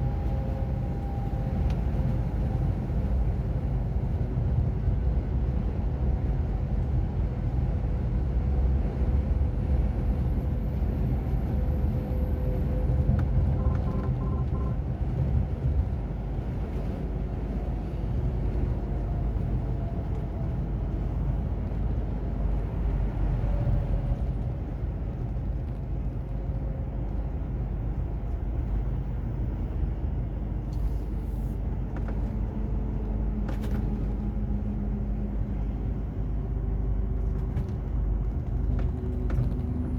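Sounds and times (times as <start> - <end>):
low road rumble: 0.0 - 39.9.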